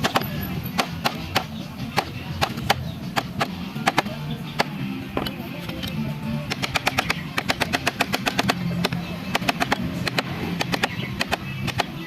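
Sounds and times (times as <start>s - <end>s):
background music: 0.0s - 12.0s
carving tools tapping wood: 0.0s - 12.0s.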